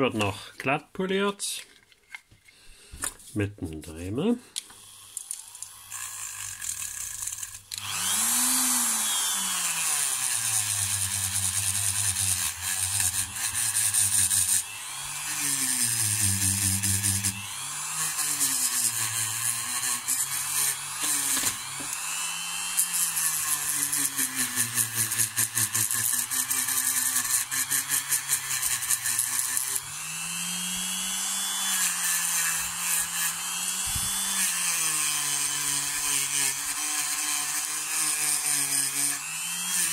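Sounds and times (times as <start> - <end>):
rotary tool motor whine: 4.8 - 39.9.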